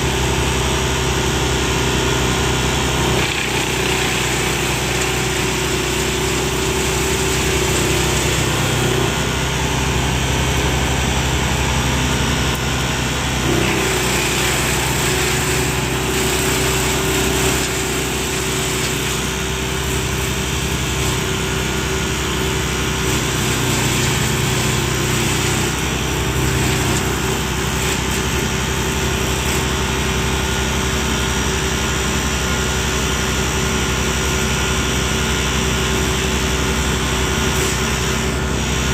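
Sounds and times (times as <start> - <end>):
wood chipper engine drone: 0.0 - 38.9.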